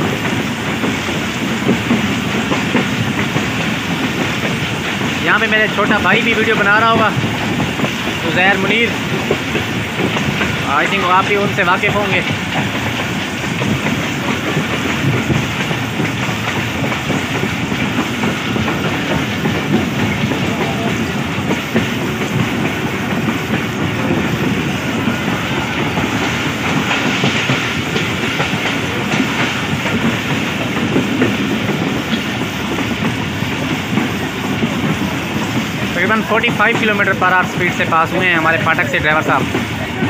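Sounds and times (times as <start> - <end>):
clickety-clack over rail joints: 0.0 - 40.0
train wheels rumbling on track: 0.0 - 40.0.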